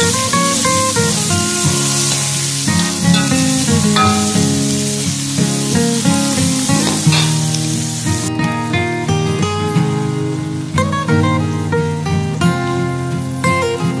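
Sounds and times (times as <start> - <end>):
acoustic guitar music: 0.0 - 14.0
food sizzling in a wok: 0.0 - 14.0.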